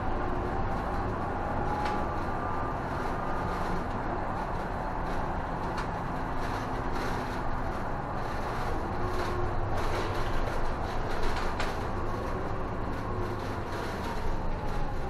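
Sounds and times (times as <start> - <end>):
bus engine hum: 0.0 - 15.0
road noise: 0.0 - 15.0.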